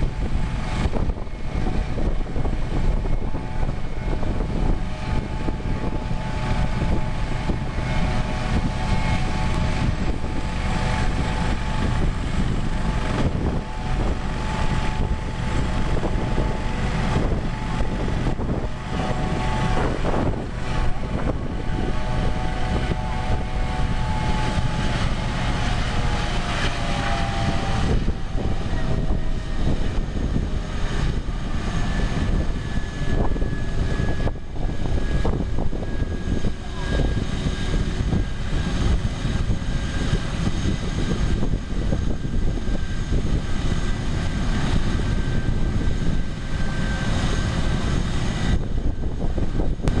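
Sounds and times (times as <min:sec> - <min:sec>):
helicopter turbine and rotor noise: 0:00.0 - 0:50.0.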